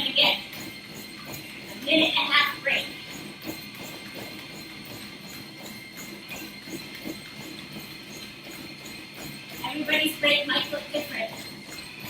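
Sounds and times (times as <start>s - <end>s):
footfalls on treadmill belt: 0.0s - 12.0s
treadmill motor whine: 0.0s - 12.0s.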